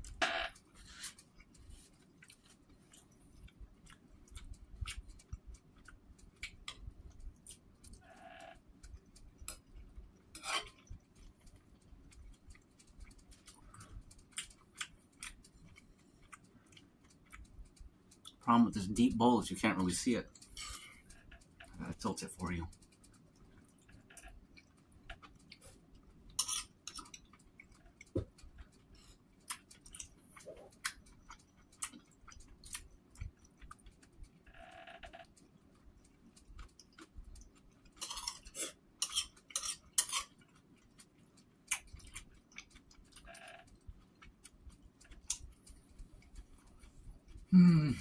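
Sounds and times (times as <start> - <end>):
quiet chewing: 0.0 - 19.2, 19.8 - 48.0.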